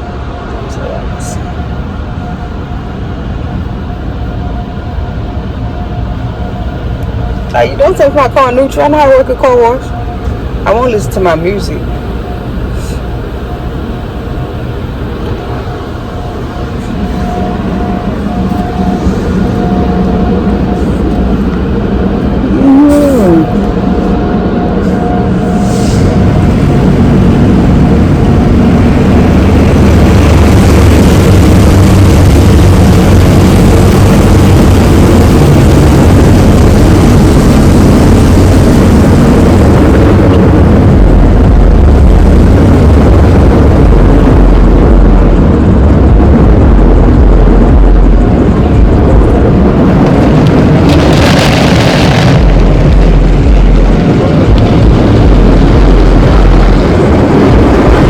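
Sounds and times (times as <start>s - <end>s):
car wash machinery rumbling: 0.0s - 58.0s.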